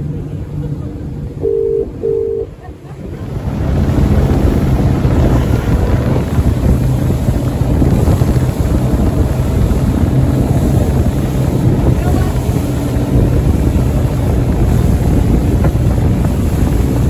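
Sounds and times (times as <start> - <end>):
boat engine drone: 0.0 - 17.0
wind buffeting microphone: 2.8 - 17.0.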